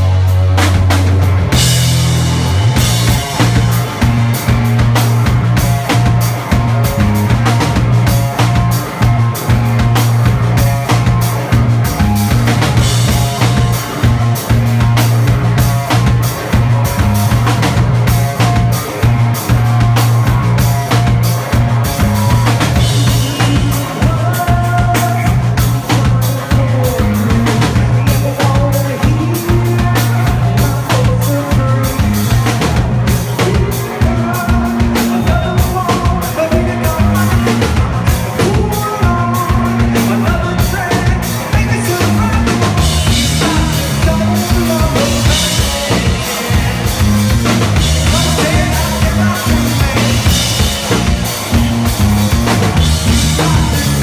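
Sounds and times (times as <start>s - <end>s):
drum kit playing: 0.0s - 54.0s
electric guitar: 0.0s - 54.0s.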